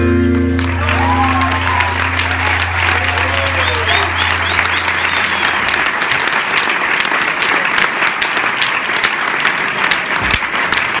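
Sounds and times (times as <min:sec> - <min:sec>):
audience applauding: 0:00.3 - 0:11.0.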